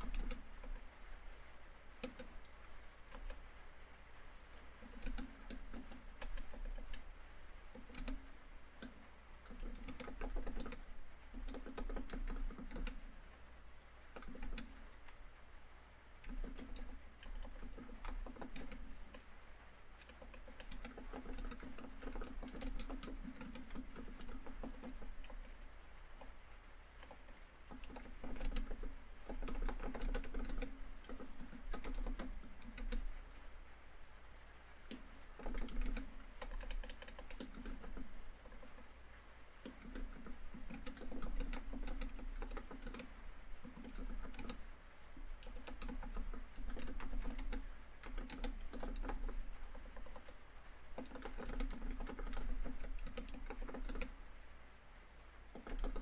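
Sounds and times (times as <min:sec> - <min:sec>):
typing on a laptop keyboard: 0:00.0 - 0:00.9, 0:02.0 - 0:03.4, 0:04.4 - 0:13.1, 0:14.1 - 0:15.2, 0:16.2 - 0:19.3, 0:20.0 - 0:33.4, 0:34.8 - 0:39.0, 0:39.6 - 0:54.2, 0:55.5 - 0:56.0
rain on a tin roof: 0:00.0 - 0:36.7, 0:37.6 - 0:56.0.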